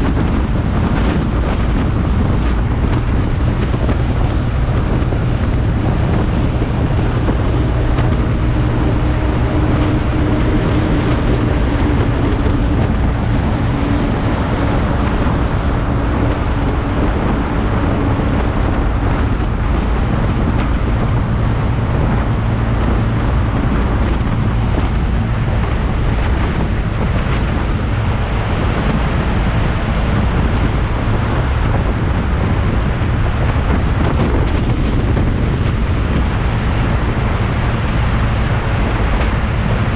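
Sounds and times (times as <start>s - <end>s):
motorcycle engine at road speed: 0.0s - 39.9s
road noise: 0.0s - 39.9s
wind rush: 0.0s - 39.9s.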